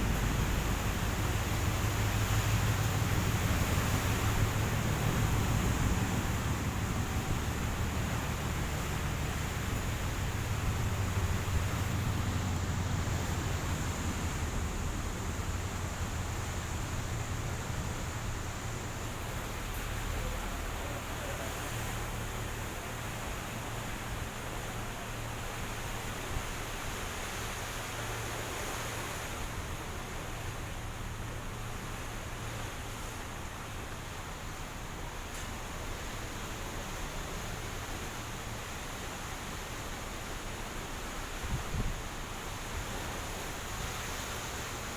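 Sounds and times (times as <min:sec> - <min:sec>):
hiss of wind and sea: 0:00.0 - 0:44.9
ship engine drone: 0:00.0 - 0:44.9.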